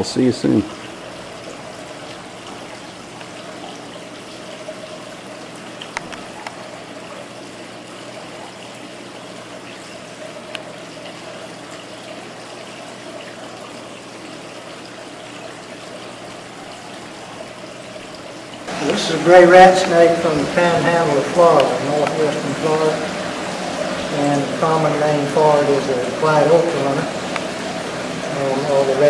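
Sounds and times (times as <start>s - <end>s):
running water trickling: 0.0s - 29.0s.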